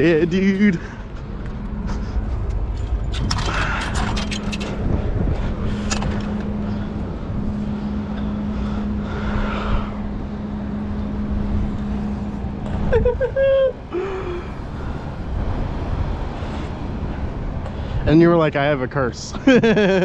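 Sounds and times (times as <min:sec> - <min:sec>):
wind rumbling on microphone: 0:00.0 - 0:19.2
low engine hum: 0:00.0 - 0:20.0.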